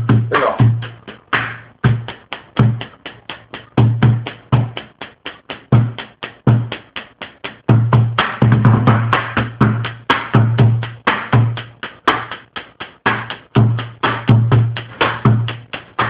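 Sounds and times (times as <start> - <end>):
drumming on a table: 0.0 - 16.0.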